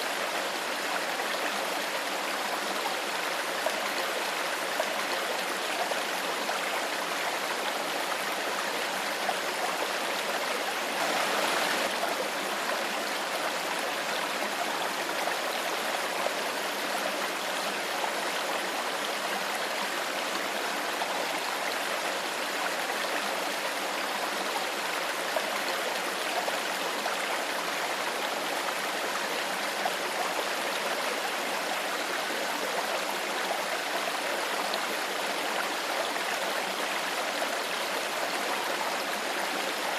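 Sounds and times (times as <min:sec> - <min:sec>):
shallow stream flowing: 0:00.0 - 0:39.9.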